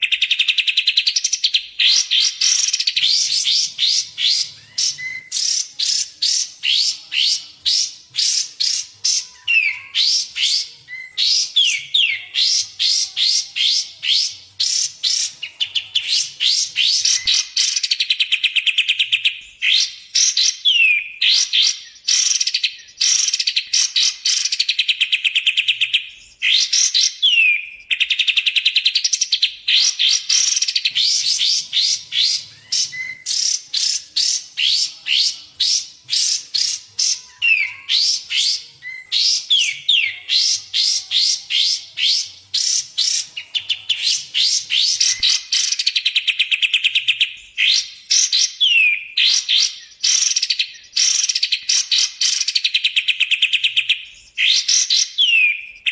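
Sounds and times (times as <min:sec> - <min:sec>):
songbird chirps and trills: 0:00.0 - 0:55.9.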